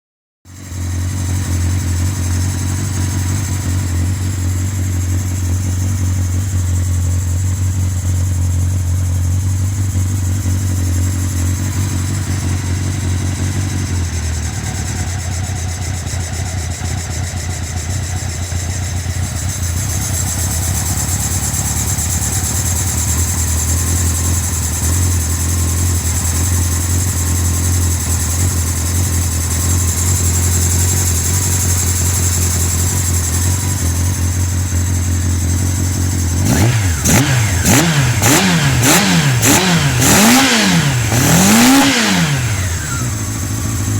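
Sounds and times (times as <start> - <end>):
motorcycle engine idling: 0.5 - 43.9.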